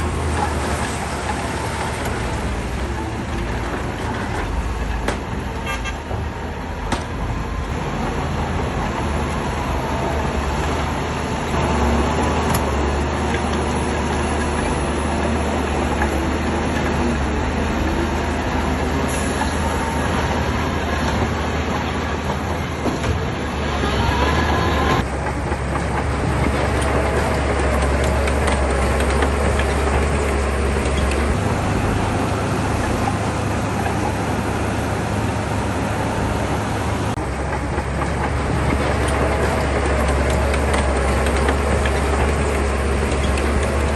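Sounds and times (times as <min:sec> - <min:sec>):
bulldozer diesel engine: 0:00.0 - 0:43.9
steel tracks clattering: 0:00.0 - 0:43.9.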